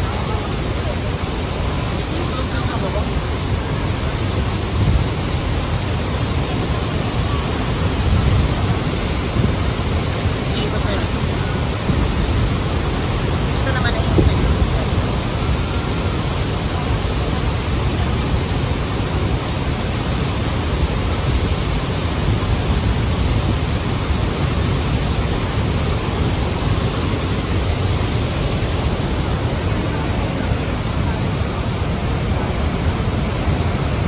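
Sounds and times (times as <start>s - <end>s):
churning water: 0.0s - 34.0s
waterfall roaring: 0.0s - 34.0s.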